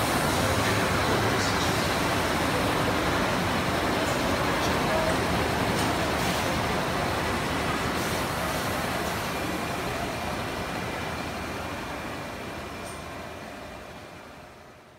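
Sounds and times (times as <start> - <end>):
machining centre running: 0.0 - 14.9.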